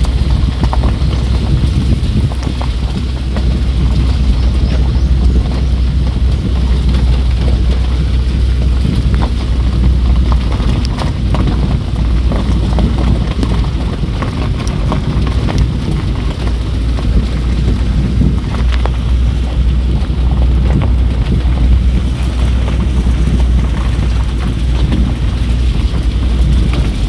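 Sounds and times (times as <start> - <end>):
rain falling: 0.0 - 27.0
sharp raindrop ticks: 0.0 - 27.0.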